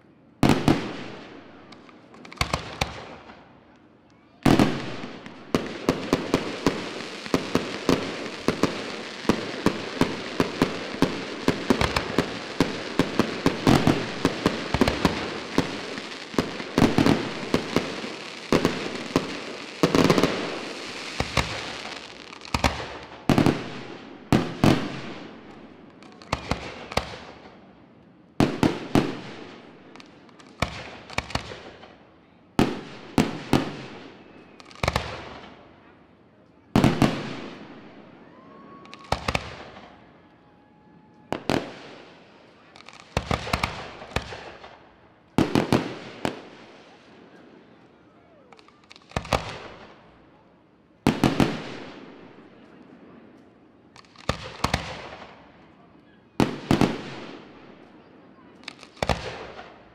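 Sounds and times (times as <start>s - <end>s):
fireworks bangs and crackling: 0.4s - 27.8s, 28.4s - 35.9s, 36.5s - 40.2s, 41.1s - 59.9s.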